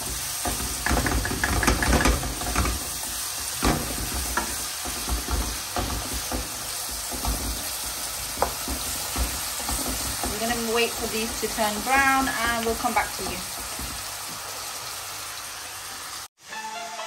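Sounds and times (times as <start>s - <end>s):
wooden spoon scraping a pot: 0.0s - 14.1s
onions sizzling in hot oil: 0.0s - 17.0s.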